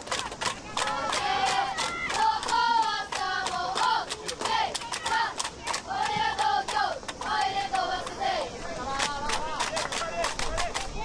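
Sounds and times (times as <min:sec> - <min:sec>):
spectators clapping rhythmically: 0:00.0 - 0:11.0
young voices chanting and shouting: 0:00.6 - 0:11.0.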